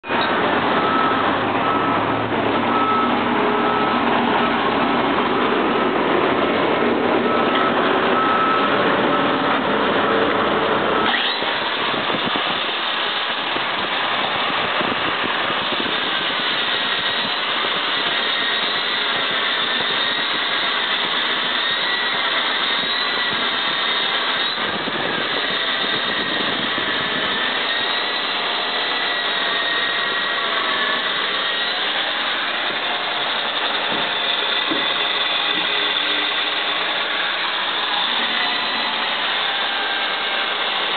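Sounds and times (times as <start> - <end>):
core drill cutting concrete: 7.5 - 40.9.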